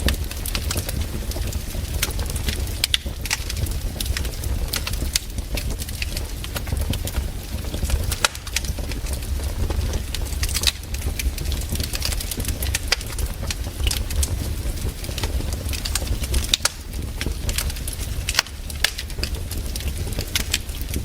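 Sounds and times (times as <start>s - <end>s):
campfire crackling: 0.0s - 21.0s
low rumble of fire: 0.0s - 21.0s.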